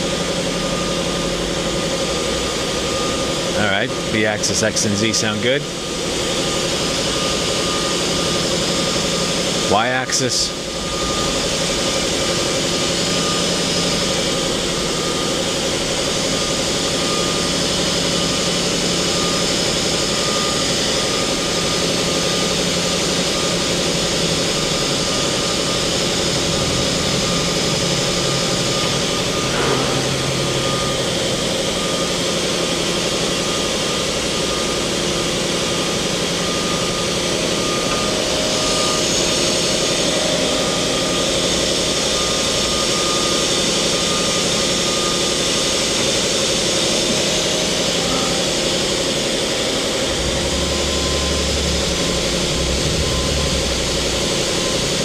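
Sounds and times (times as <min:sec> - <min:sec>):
faint machine tones: 0:00.0 - 0:55.0
machine hum: 0:00.0 - 0:55.0
machine pitch sweep: 0:00.0 - 0:55.0.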